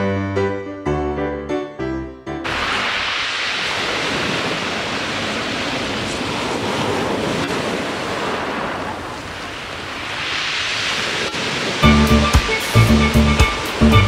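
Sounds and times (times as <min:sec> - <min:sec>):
waves washing onto beach: 0:02.4 - 0:14.0.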